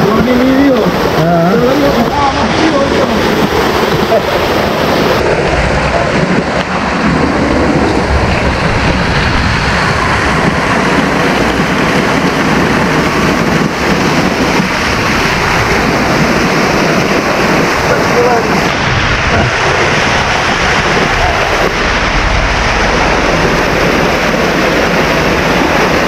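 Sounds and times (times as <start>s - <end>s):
waterfall rushing: 0.0s - 26.0s
wind on microphone: 0.0s - 26.0s.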